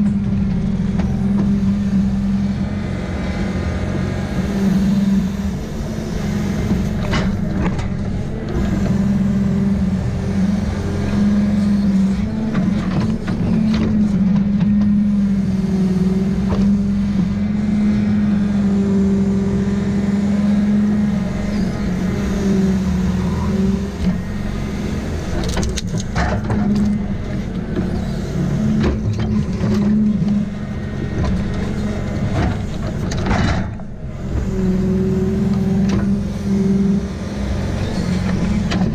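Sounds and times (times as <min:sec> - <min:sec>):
diesel engine running: 0:00.0 - 0:38.9
hydraulics whining: 0:00.0 - 0:38.9.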